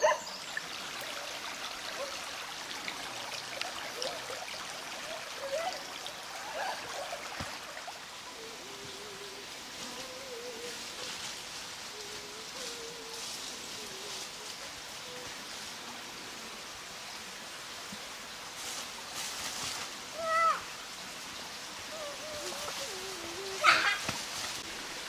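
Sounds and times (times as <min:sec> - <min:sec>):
small stream flowing: 0:00.0 - 0:25.0
rustling through vegetation: 0:01.1 - 0:25.0.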